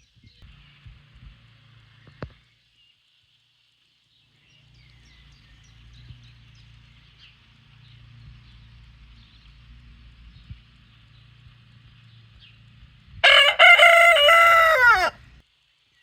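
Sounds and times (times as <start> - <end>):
low steady rumble: 0.0 - 2.8, 4.1 - 15.5
small birds chirping: 0.0 - 16.0.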